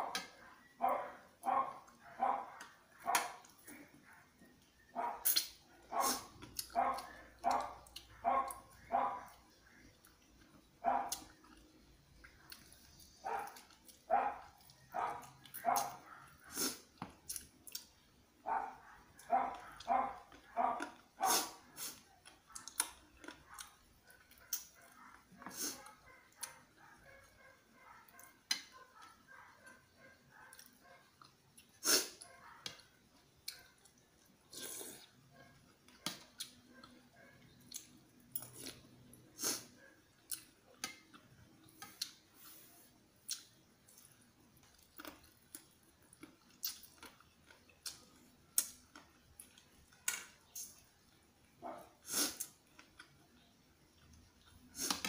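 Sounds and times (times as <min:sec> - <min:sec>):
man chewing with mouth smacks: 0:04.5 - 0:18.0, 0:19.2 - 0:26.7, 0:30.5 - 0:55.0.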